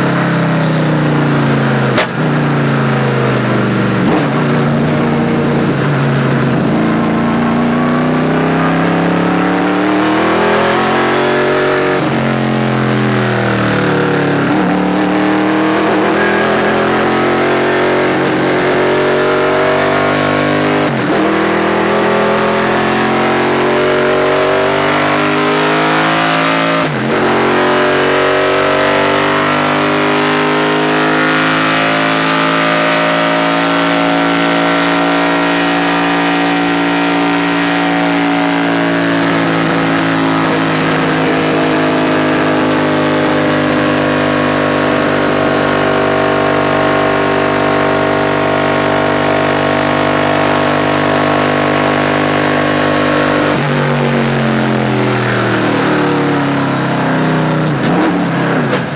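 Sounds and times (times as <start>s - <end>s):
race car engine at high revs: 0.0s - 58.9s.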